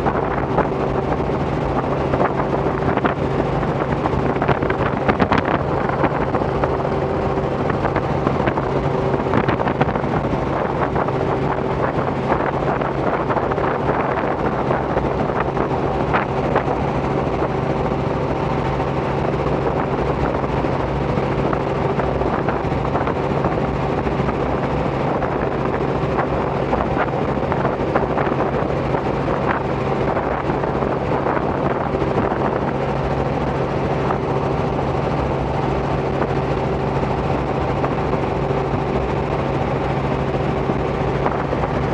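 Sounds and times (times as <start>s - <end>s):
helicopter engine and rotors droning: 0.0s - 41.9s
wind buffeting microphone: 0.0s - 41.9s.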